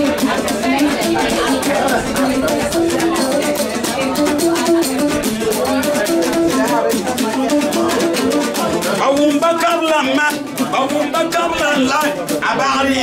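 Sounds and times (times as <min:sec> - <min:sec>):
shaker rattle: 0:00.0 - 0:12.6
plucked string instrument: 0:00.0 - 0:13.0.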